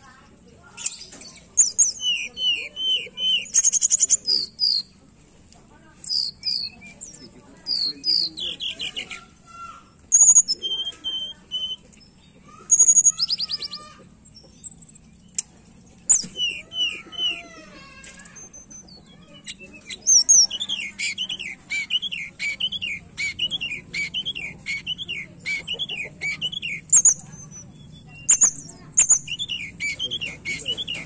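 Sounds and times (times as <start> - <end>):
bird whistling song: 0.8 - 5.0, 6.0 - 9.3, 10.1 - 15.5, 16.1 - 31.0.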